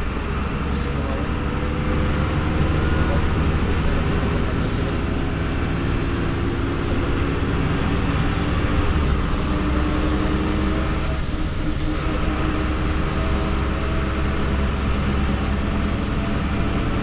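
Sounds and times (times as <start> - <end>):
bus engine hum: 0.0 - 17.0
road noise: 0.0 - 17.0.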